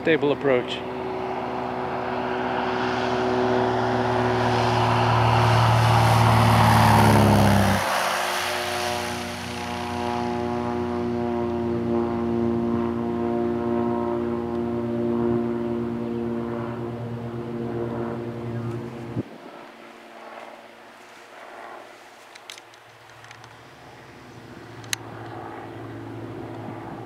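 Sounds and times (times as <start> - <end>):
propeller airplane engine: 0.0 - 27.0.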